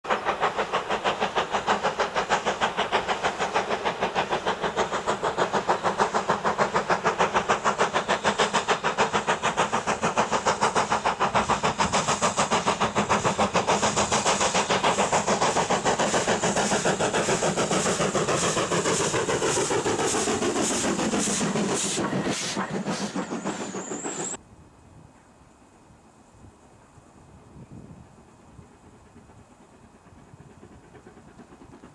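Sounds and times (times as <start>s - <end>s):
steam locomotive exhaust beats: 0.1s - 24.4s, 27.1s - 31.9s.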